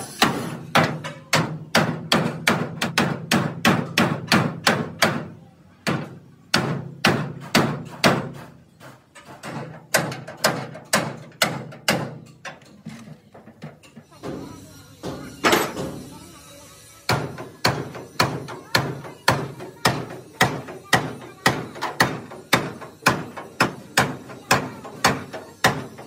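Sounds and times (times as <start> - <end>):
hammer on steel roof: 0.2 - 12.6, 13.3 - 16.2, 17.0 - 26.0.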